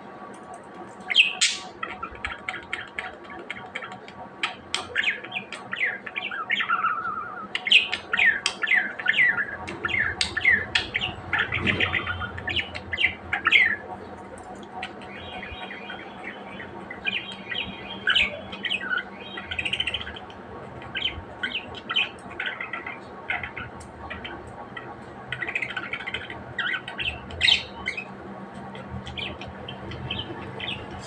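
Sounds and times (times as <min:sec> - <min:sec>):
budgies chattering and chirping: 0:01.0 - 0:31.0.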